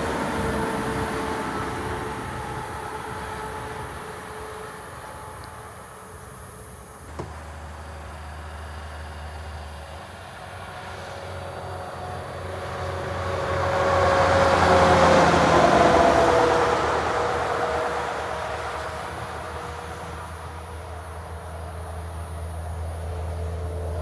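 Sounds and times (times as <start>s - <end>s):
truck engine passing: 0.0s - 24.0s.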